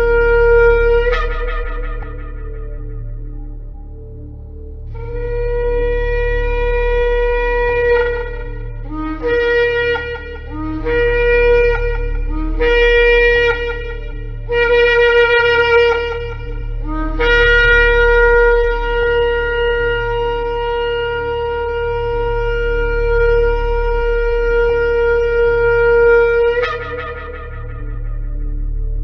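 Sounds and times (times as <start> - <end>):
shofar blasts: 0.0 - 4.3, 5.0 - 29.0
steady low hum: 0.0 - 29.0.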